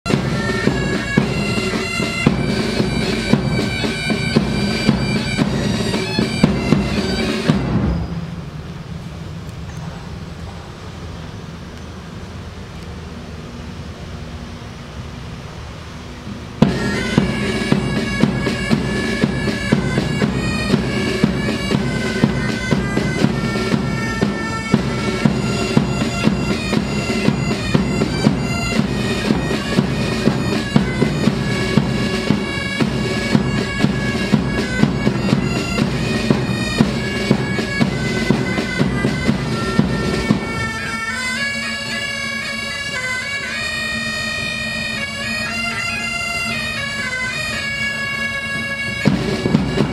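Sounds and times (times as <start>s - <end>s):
drums beating march: 0.0s - 8.6s, 16.3s - 49.9s
bagpipes playing melody: 0.1s - 7.8s, 16.6s - 49.9s.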